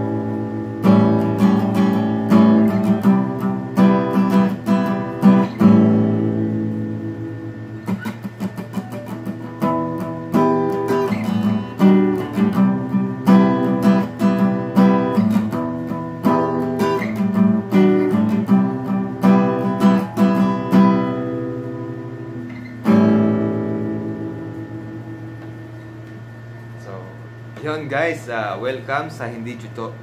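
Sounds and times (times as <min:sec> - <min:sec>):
acoustic guitar strumming chords: 0:00.0 - 0:27.6.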